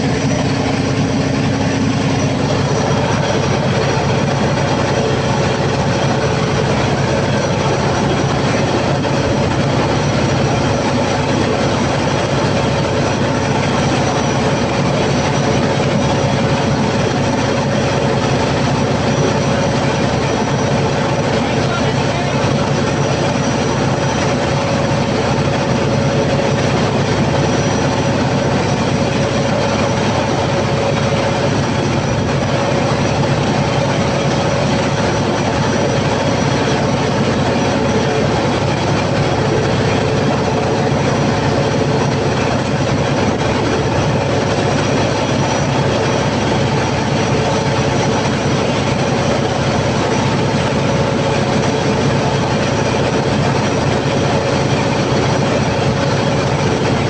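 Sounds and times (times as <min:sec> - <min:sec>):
diesel generator drone with whine: 0:00.0 - 0:57.0.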